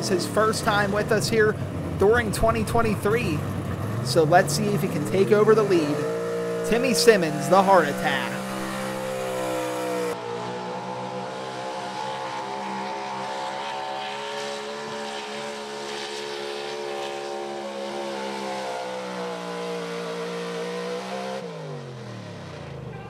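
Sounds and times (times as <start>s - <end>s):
truck engine at high revs: 0.0s - 23.0s.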